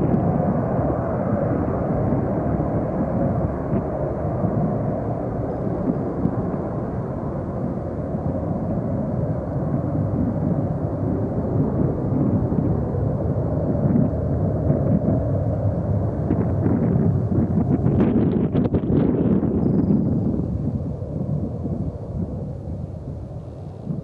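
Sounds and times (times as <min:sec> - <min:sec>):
deep jet engine rumble: 0:00.0 - 0:24.0.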